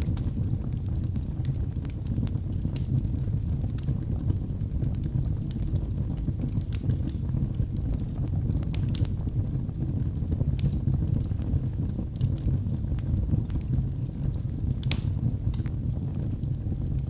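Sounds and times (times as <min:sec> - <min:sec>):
wood fire burning: 0:00.0 - 0:17.0.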